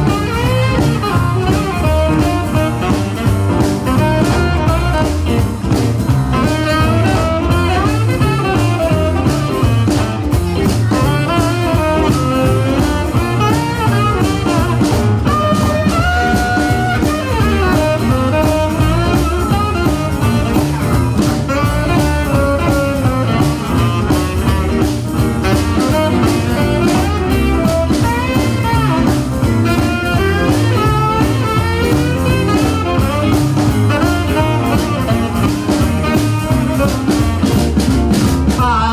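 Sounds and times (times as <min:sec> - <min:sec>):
tenor saxophone solo: 0:00.0 - 0:38.2
bass: 0:00.0 - 0:38.9
drums: 0:00.0 - 0:38.9
piano: 0:00.0 - 0:38.9.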